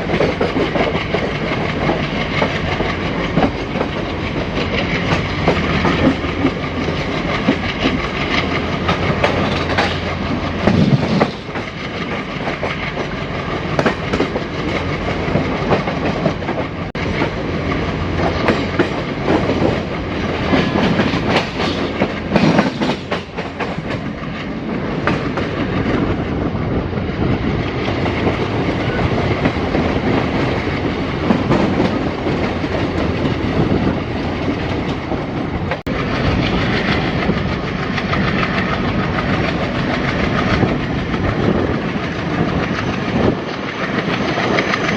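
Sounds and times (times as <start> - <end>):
train wheels clattering over rail joints: 0.0 - 26.5, 27.2 - 44.9
diesel locomotives chugging: 0.0 - 44.9.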